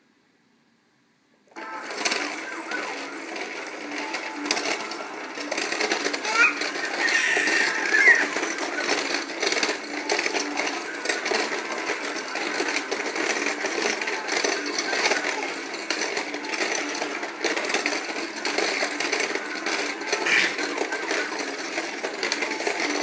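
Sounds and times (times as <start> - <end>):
toy cars rattling on plastic tracks: 1.6 - 23.0.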